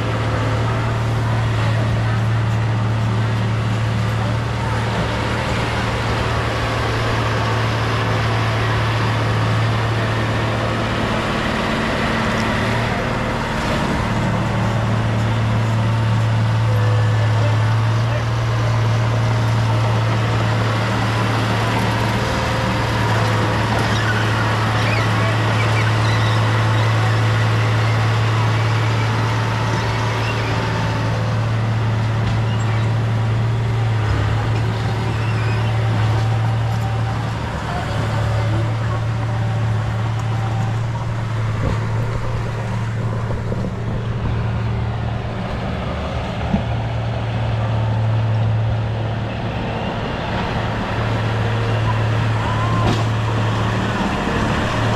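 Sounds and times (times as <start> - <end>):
heavy diesel machine engine droning: 0.0 - 54.9.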